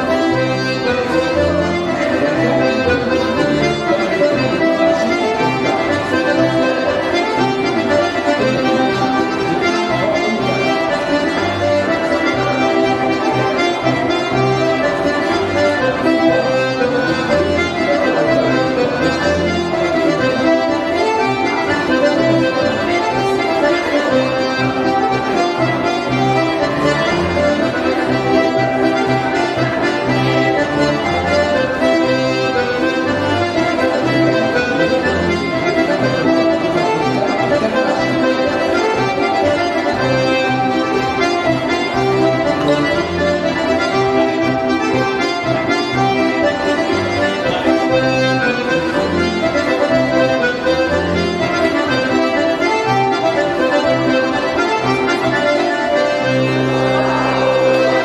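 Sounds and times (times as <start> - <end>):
polka march music: 0.0 - 58.0.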